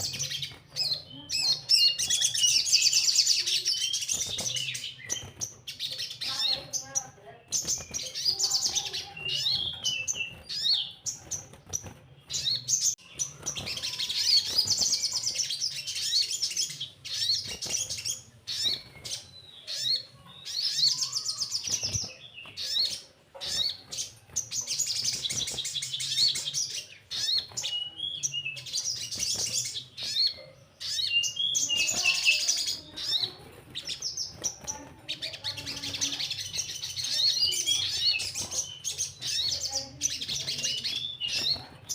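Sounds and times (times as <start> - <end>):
bird singing high trills: 0.0 - 41.9.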